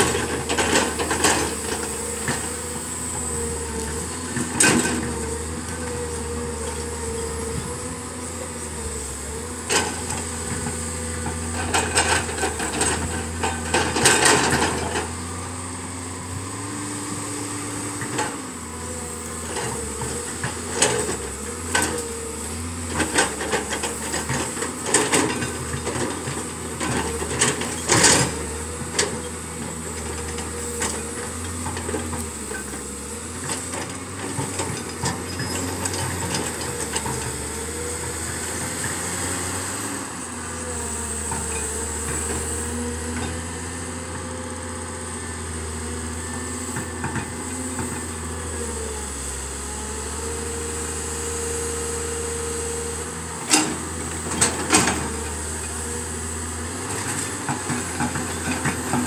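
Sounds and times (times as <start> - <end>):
excavator diesel engine droning: 0.0 - 59.0.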